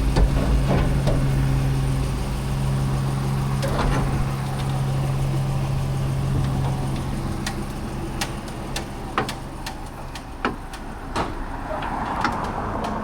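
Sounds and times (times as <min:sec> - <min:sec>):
engine idling: 0:00.0 - 0:12.4.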